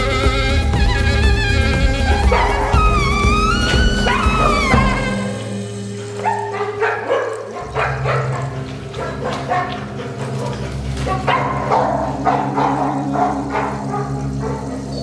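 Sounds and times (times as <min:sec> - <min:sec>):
large dog barking: 0:02.1 - 0:05.2, 0:06.1 - 0:15.0.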